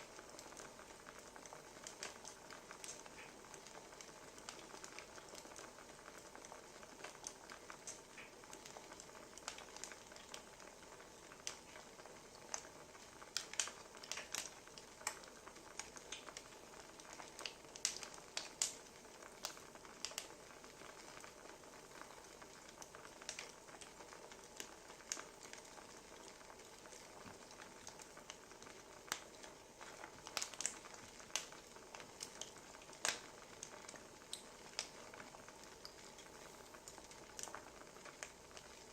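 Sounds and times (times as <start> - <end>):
wood fire crackling: 0.0 - 38.9
fire pops and snaps: 0.1 - 38.9.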